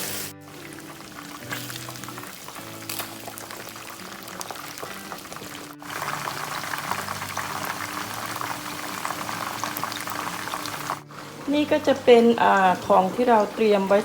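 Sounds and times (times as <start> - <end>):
food bubbling and crackling in pan: 0.0 - 14.0
soft background music: 0.0 - 14.0.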